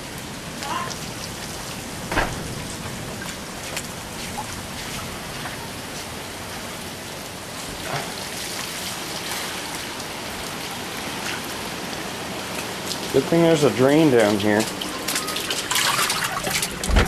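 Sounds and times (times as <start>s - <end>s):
heavy rain on paving and grass: 0.0s - 17.0s
sharp rain ticks: 0.0s - 17.0s.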